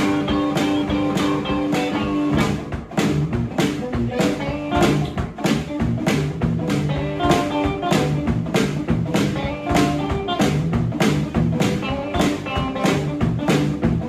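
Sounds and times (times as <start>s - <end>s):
blues guitar riff: 0.0s - 14.0s
steady drum beat: 0.0s - 14.0s.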